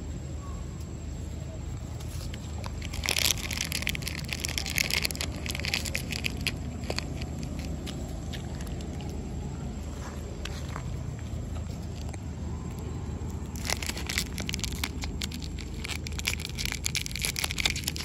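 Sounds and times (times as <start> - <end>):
dry leaves crackling and crunching: 1.6 - 18.0.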